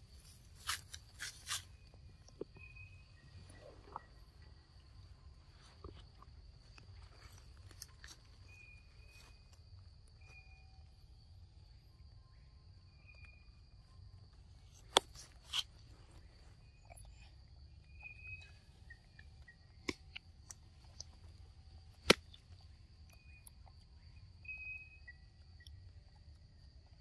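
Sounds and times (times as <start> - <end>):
bird chirps: 0.0 - 5.8, 6.7 - 26.4.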